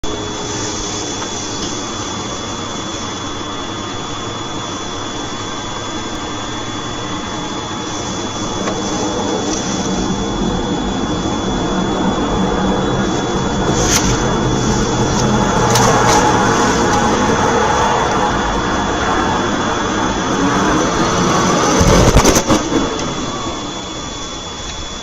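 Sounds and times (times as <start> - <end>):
high engine whine: 0.0 - 25.0
jet engines rushing: 0.0 - 25.0.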